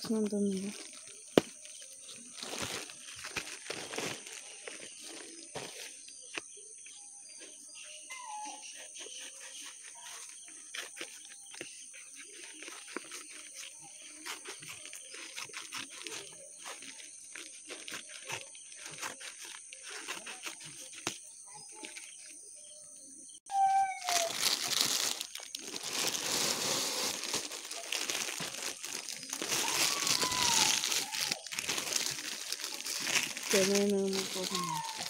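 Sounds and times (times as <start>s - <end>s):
paper and plastic crinkling: 0.0s - 6.4s, 9.2s - 22.4s, 23.7s - 35.0s.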